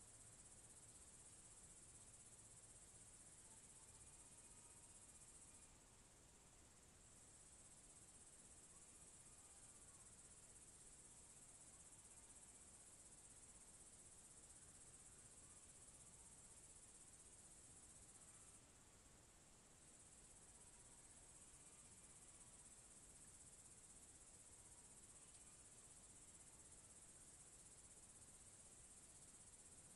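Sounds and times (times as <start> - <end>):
crickets chirring: 0.0 - 5.8, 7.1 - 18.6, 19.8 - 29.9.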